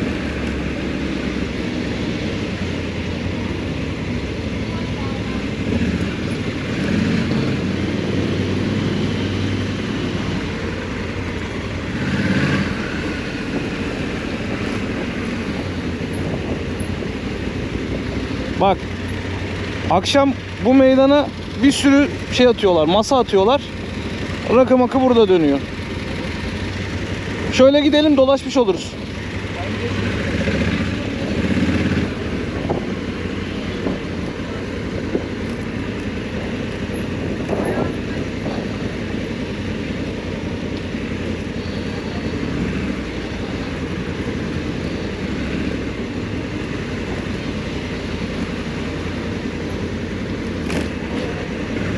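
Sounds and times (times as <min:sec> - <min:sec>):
motorcycle engine at low revs: 0:00.0 - 0:51.9.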